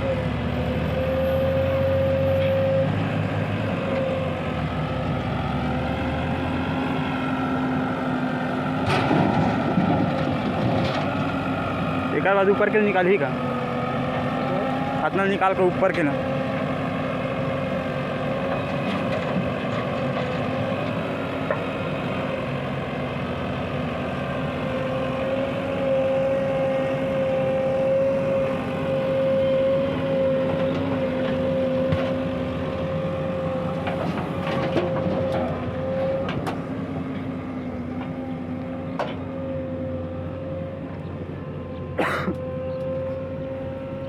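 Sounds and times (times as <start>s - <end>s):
diesel engines droning: 0.0s - 44.0s.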